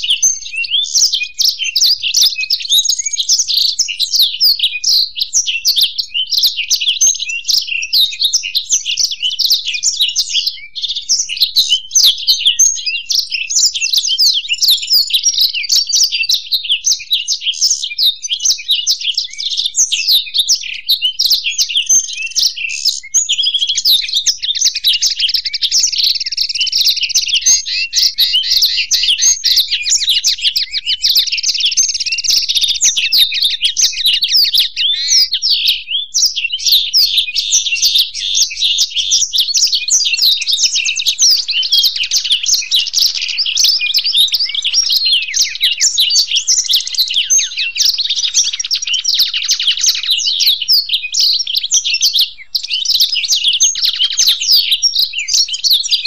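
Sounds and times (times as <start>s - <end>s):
finches twittering warble: 0.0s - 55.9s.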